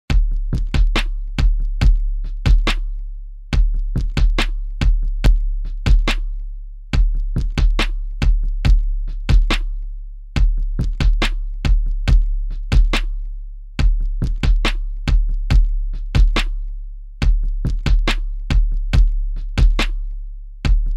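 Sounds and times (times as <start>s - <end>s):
drum machine beat: 0.1s - 9.8s, 10.4s - 20.9s.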